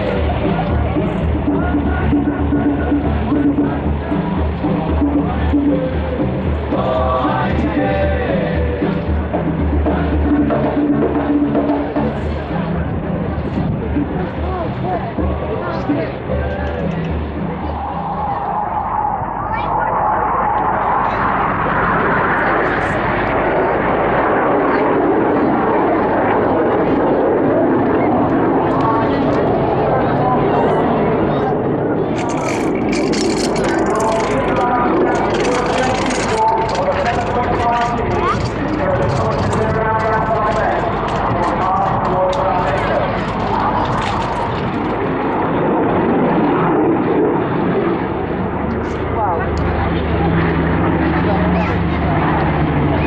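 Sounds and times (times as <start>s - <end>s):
aircraft engine roar: 0.0s - 53.0s.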